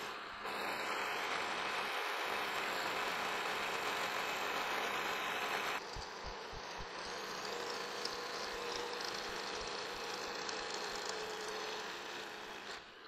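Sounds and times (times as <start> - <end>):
milling machine cutting metal: 0.0 - 13.0.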